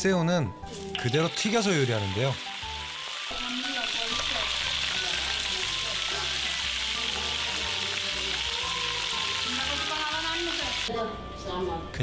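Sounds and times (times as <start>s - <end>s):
lobster deep-frying in hot oil: 0.7s - 10.9s.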